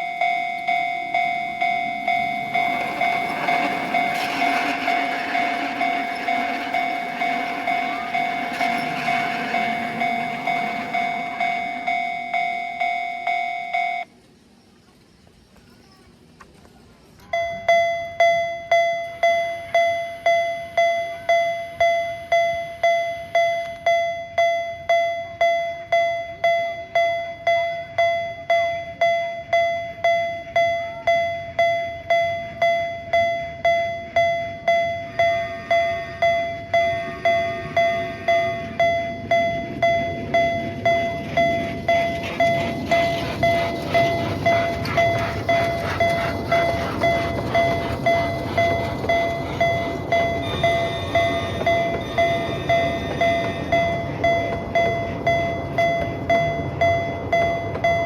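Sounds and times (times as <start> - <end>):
level-crossing alarm ringing: 0.0 - 14.2, 17.3 - 58.0
mini train rumble: 0.0 - 58.0.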